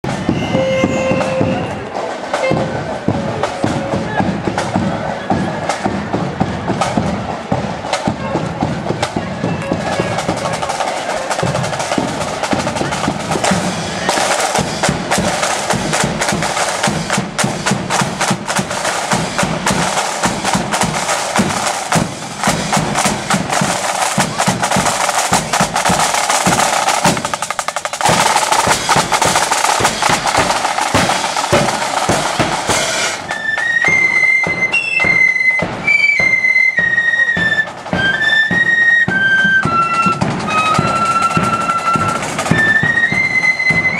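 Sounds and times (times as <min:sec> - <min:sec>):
side drums beating: 0:00.0 - 0:43.9
flutes playing a melody: 0:00.1 - 0:03.0, 0:08.0 - 0:43.9.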